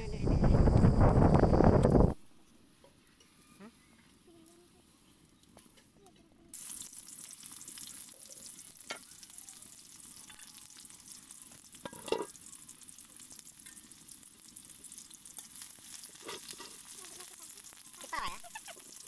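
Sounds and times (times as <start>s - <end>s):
onions sizzling in hot oil: 2.7s - 5.9s, 6.5s - 19.0s.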